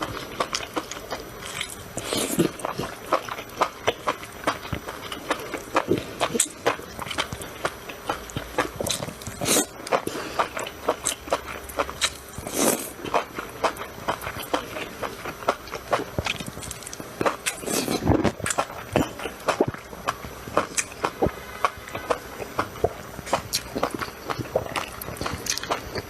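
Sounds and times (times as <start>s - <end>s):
person chewing mushrooms: 0.0s - 26.0s.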